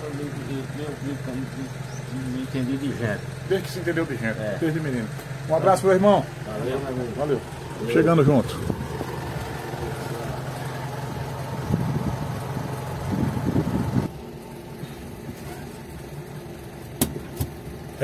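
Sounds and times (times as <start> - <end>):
car engine idling: 0.0 - 18.0
outside noise: 0.0 - 18.0.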